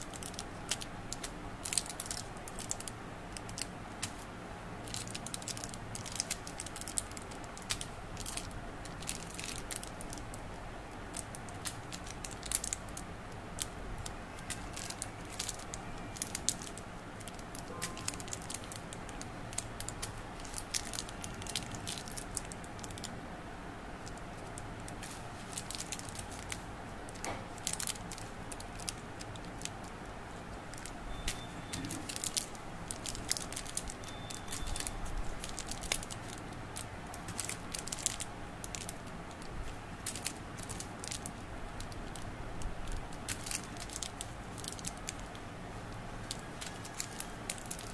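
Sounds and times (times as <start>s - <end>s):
plastic wrappers crinkling: 0.0s - 23.1s, 24.0s - 47.9s
low background noise: 0.0s - 47.9s.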